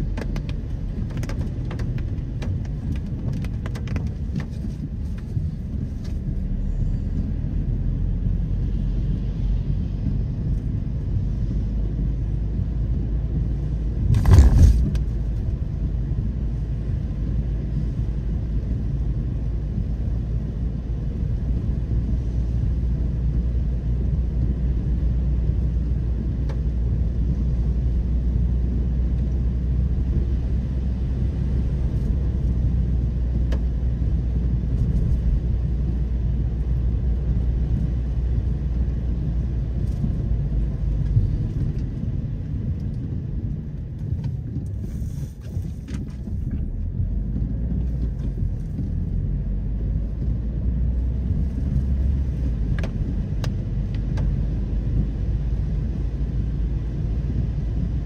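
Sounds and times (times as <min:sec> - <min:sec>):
car cabin rumble: 0:00.0 - 0:58.0.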